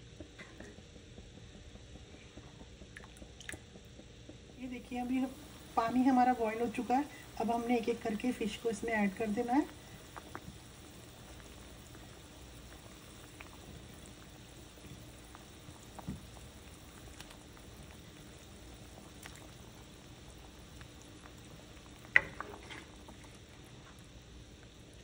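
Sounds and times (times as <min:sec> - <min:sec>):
gravy bubbling: 0:00.0 - 0:25.0.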